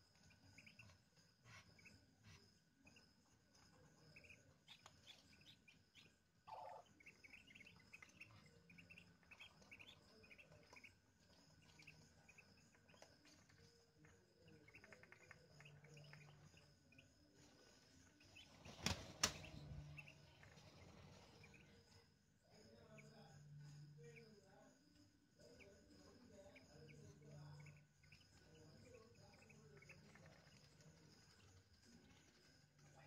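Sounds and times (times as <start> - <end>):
ducklings peeping: 0.1 - 3.0, 3.6 - 22.0, 26.4 - 33.0.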